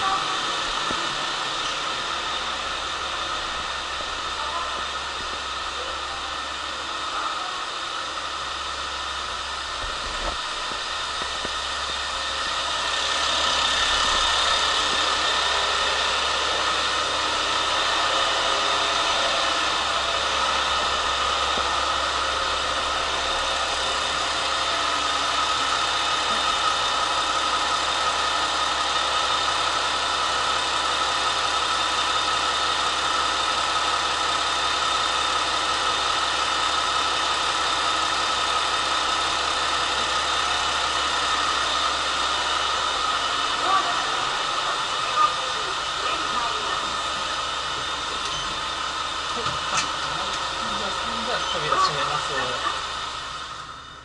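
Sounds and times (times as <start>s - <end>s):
diesel railcar engine idling: 0.0s - 54.0s.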